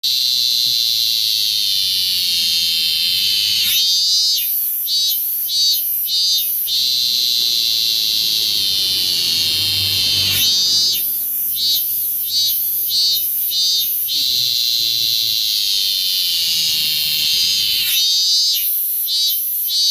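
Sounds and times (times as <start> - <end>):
cicada buzzing: 0.0 - 19.9.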